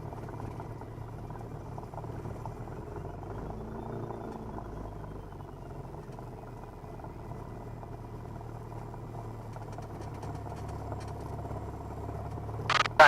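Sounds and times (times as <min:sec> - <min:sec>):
light aircraft engine droning: 0:00.0 - 0:13.0.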